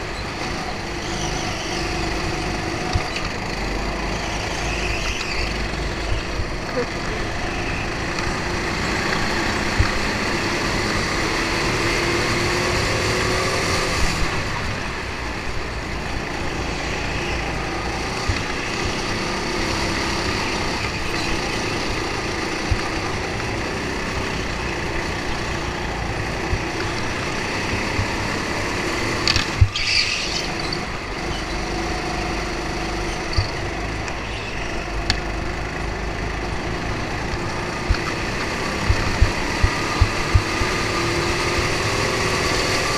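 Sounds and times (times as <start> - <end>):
go-kart engine at speed: 0.0 - 42.9.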